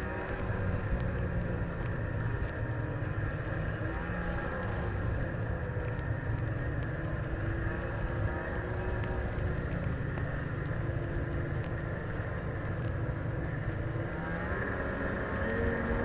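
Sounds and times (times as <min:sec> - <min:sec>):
vehicle engine running: 0:00.0 - 0:16.0
wind and road rumble: 0:00.0 - 0:16.0.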